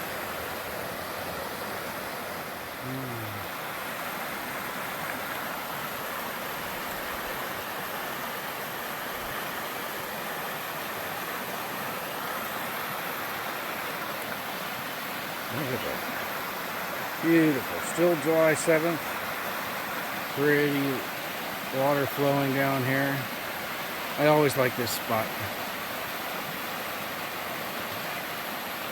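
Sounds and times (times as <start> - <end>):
river rushing around boulders: 0.0 - 28.9.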